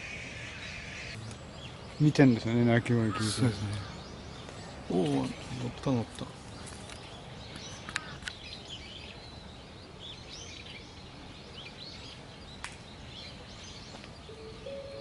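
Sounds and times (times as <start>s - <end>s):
birds chirping: 0.0s - 15.0s
low outdoor background noise: 0.0s - 15.0s.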